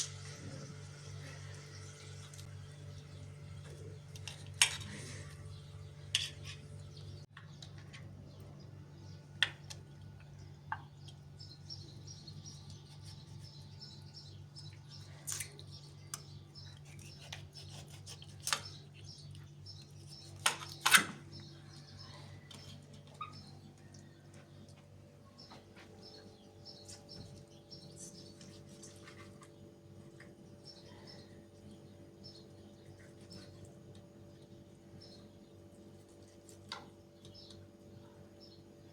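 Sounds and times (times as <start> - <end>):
steady low hum: 0.0 - 38.9
small birds chirping: 0.4 - 38.9.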